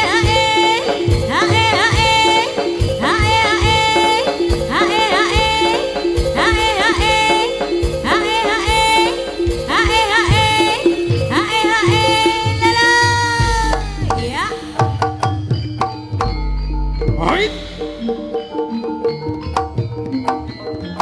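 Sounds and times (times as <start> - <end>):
high wavering melody: 0.0 - 21.0.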